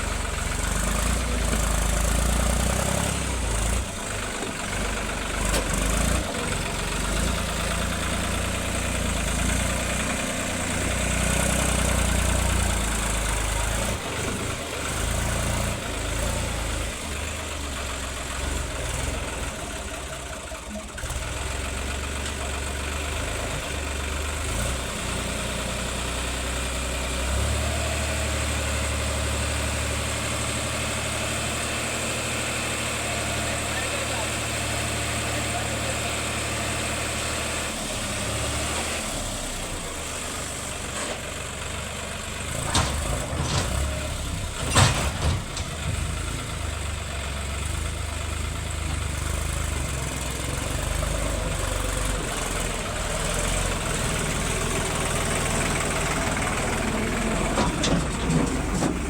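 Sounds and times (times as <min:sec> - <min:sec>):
heavy machinery engine droning: 0:00.0 - 0:59.0.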